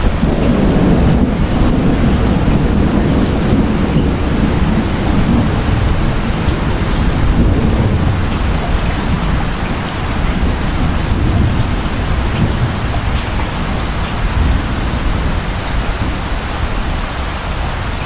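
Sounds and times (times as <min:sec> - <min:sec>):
distant thunder rumble: 0:00.0 - 0:18.0
steady rain: 0:00.0 - 0:18.0.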